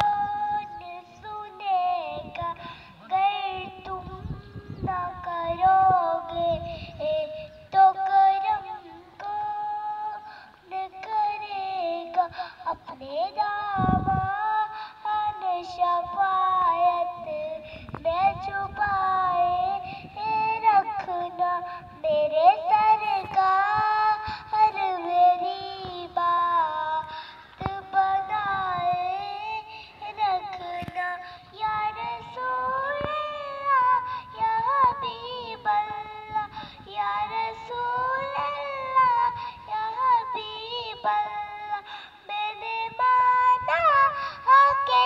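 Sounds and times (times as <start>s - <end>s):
girl singing devotional song: 0.0s - 45.0s.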